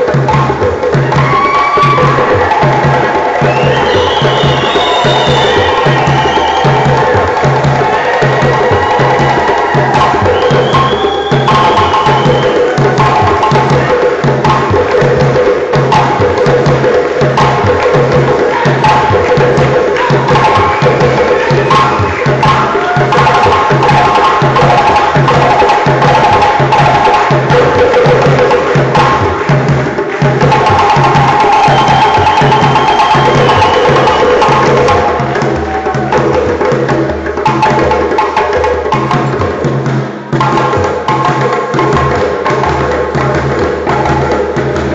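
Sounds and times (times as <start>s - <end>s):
deep drum beating: 0.0s - 44.9s
hand drums playing dance rhythm: 0.0s - 44.9s
sharp fast drum slaps: 0.0s - 44.9s.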